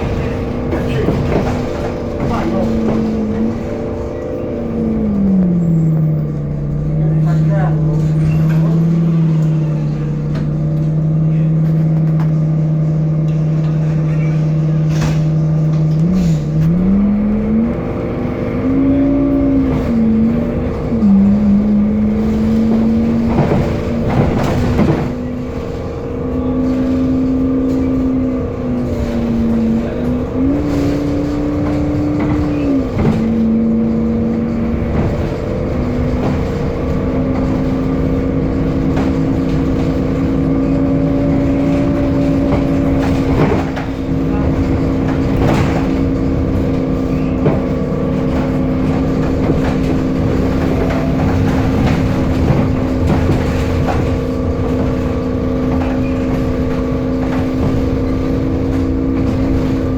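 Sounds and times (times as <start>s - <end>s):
bus engine whine: 0.0s - 59.9s
knocks and rattles: 0.0s - 59.9s.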